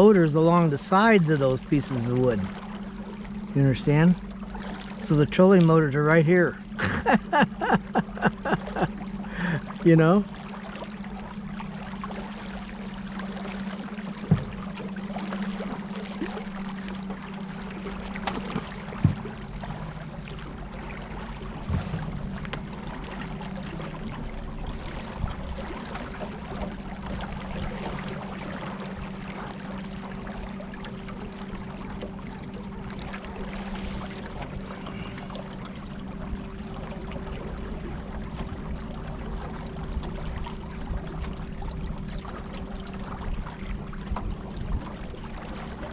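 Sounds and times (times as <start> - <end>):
water rushing and splashing: 0.0 - 45.9.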